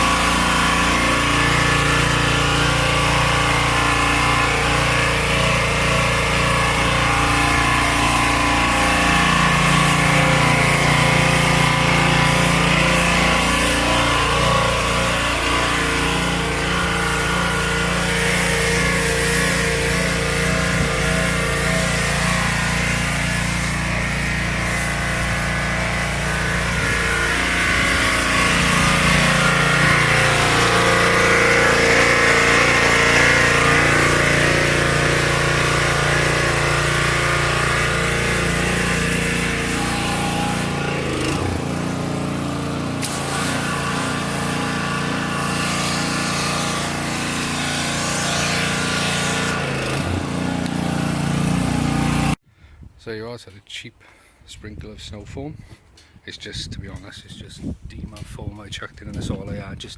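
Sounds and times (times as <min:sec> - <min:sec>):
pressure washer engine hum: 0:00.0 - 0:52.4
spray jet hissing: 0:00.0 - 0:52.4.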